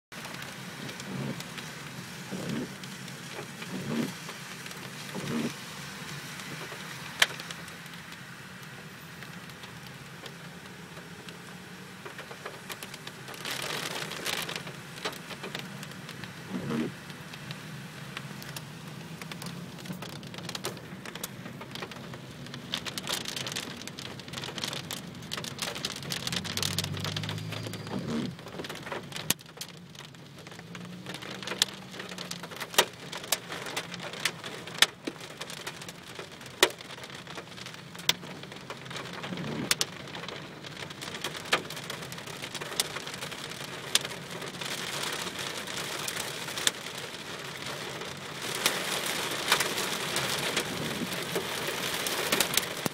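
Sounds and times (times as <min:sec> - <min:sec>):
raindrops hitting hard surface: 0:00.1 - 0:52.9
steady rain falling: 0:00.1 - 0:52.9.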